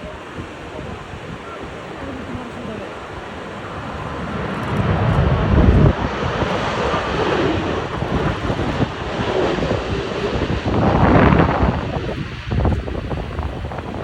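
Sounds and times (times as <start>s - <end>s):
jet engines running loud: 0.0s - 14.0s
wind buffeting microphone: 0.0s - 14.0s.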